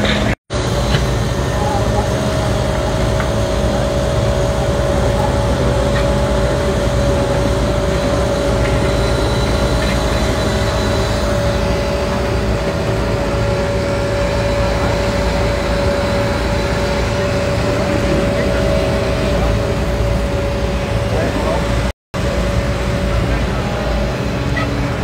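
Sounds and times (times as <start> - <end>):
excavator diesel rumble with whine: 0.0 - 25.0.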